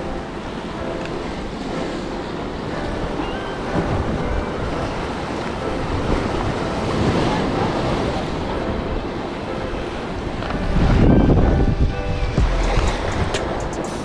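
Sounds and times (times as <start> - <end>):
surf washing over rocks: 0.0 - 14.0
wind buffeting microphone: 0.0 - 14.0.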